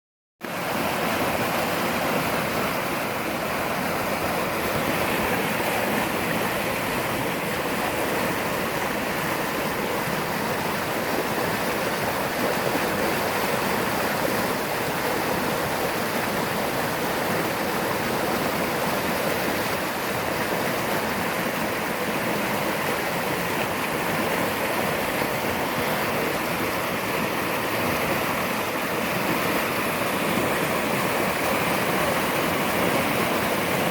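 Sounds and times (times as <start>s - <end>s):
flooded creek rushing: 0.4s - 33.9s.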